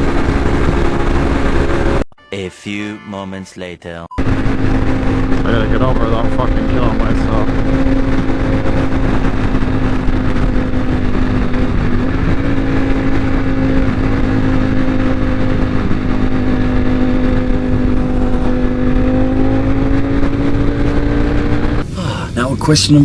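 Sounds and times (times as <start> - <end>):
heavy wind noise: 0.0 - 2.0, 4.2 - 22.7
motorcycle engine cruising: 0.0 - 2.1, 4.2 - 22.0.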